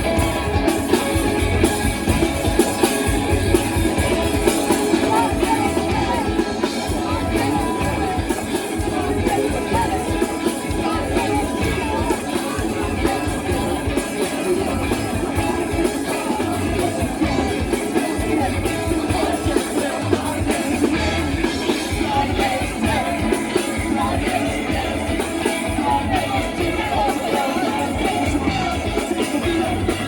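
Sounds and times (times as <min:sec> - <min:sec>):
person singing: 0:00.0 - 0:30.0
rock band playing live: 0:00.0 - 0:30.0.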